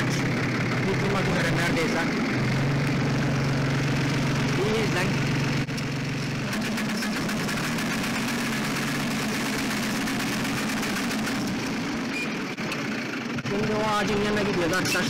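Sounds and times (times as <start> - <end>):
tractor engine under load: 0.0 - 15.0.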